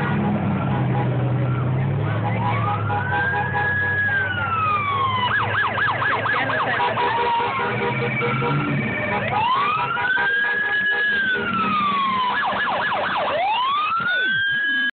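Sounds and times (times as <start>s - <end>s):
emergency vehicle sirens: 0.0s - 15.0s.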